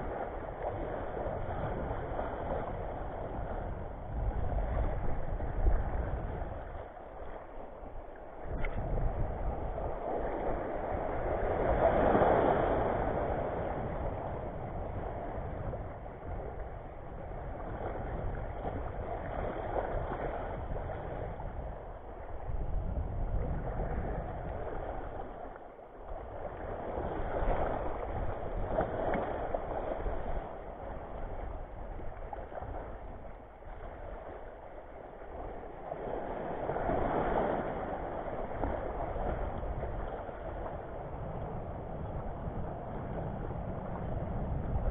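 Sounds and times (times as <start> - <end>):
small waves washing over reef: 0.0 - 44.9
wind rumbling on microphone: 0.0 - 44.9.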